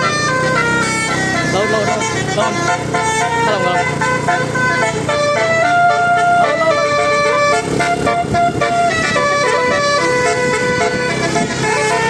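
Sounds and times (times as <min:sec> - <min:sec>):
multi-tone bus horn tune: 0:00.0 - 0:12.0.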